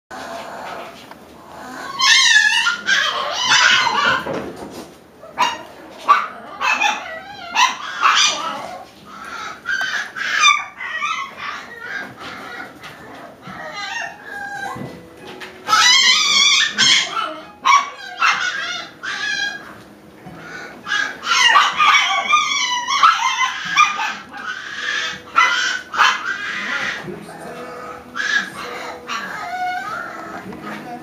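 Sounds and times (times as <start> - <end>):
puppies yipping and squealing: 0.2 - 4.5, 5.2 - 31.0.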